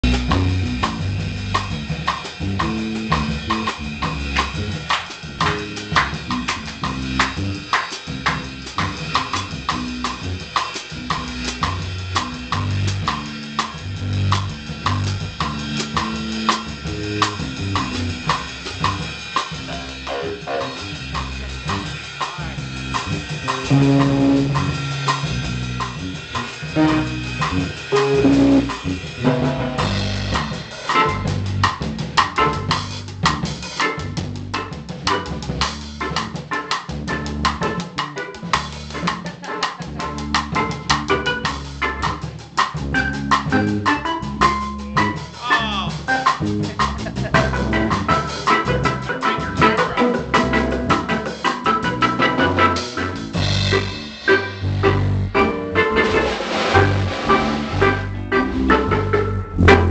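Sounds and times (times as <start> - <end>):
drums steady beat: 0.0 - 59.9
live band playing: 0.0 - 59.9.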